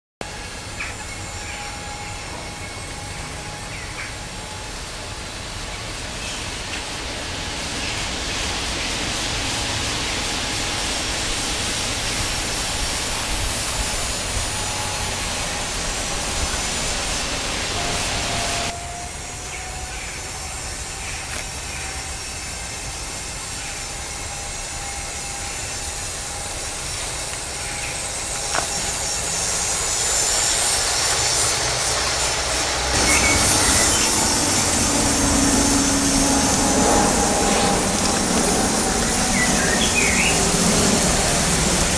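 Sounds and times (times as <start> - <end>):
model train motor hum: 0.2 - 41.9
wheels rumbling on rail: 0.2 - 41.9.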